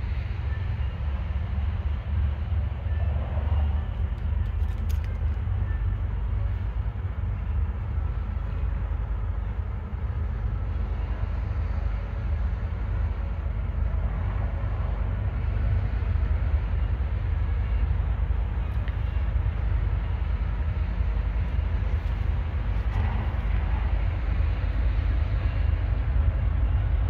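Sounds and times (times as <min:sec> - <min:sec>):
distant diesel locomotives rumbling: 0:00.0 - 0:27.0.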